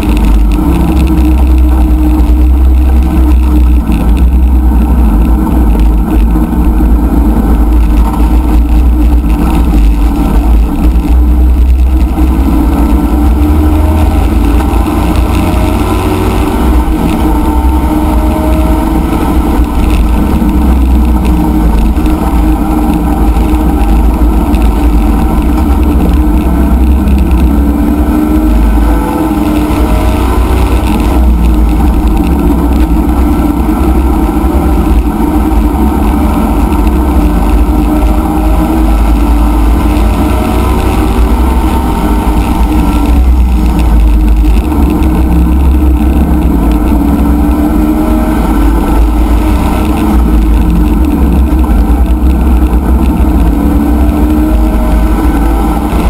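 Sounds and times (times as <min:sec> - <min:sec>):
race car engine accelerating: 0:00.0 - 0:56.0
wind and road noise: 0:00.0 - 0:56.0.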